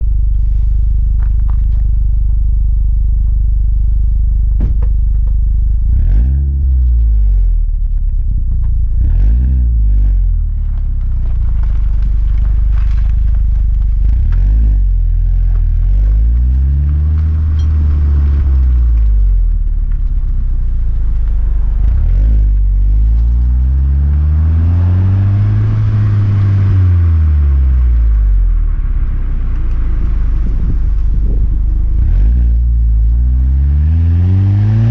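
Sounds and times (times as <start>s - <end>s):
engine exhaust idling and revving: 0.0s - 34.9s.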